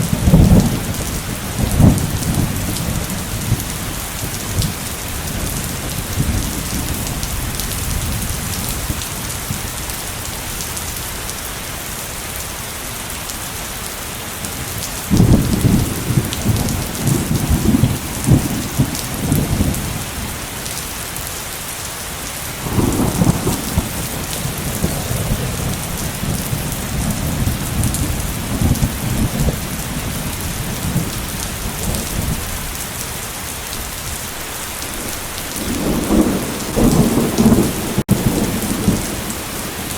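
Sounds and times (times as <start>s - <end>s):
thunder rumbling: 0.0s - 9.8s, 14.5s - 20.6s, 22.6s - 39.9s
heavy rain pattering: 0.0s - 39.9s.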